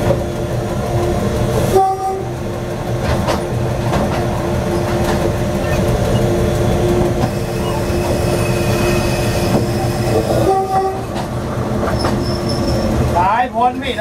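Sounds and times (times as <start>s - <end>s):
train engine drone: 0.0s - 14.0s
wheels rumbling on rails: 0.0s - 14.0s.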